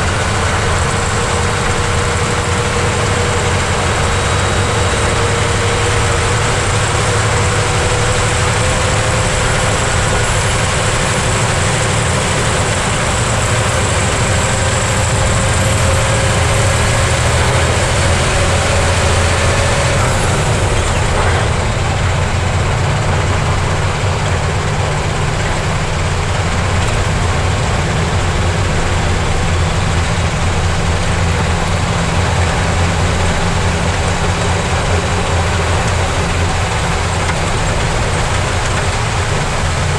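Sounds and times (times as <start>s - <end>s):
heavy truck engine under load: 0.0s - 39.9s.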